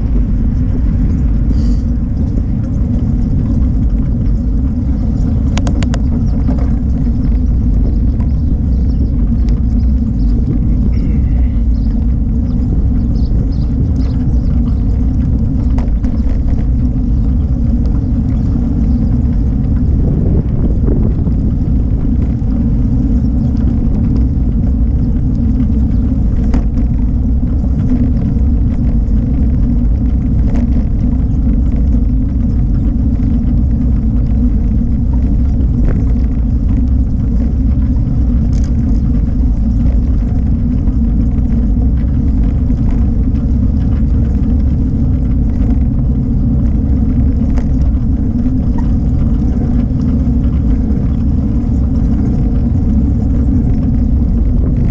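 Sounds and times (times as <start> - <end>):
bicycle rolling noise: 0.0 - 54.9
wind buffeting microphone: 0.0 - 54.9.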